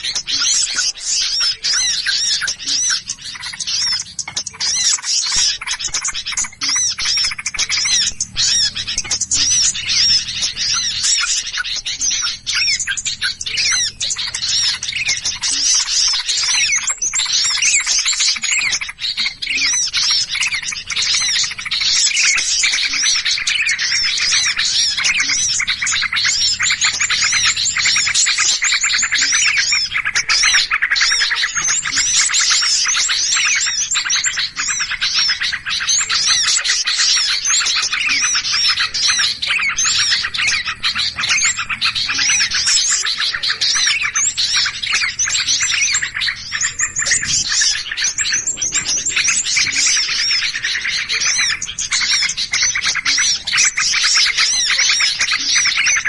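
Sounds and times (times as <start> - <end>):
many small birds chattering: 0.0 - 56.0.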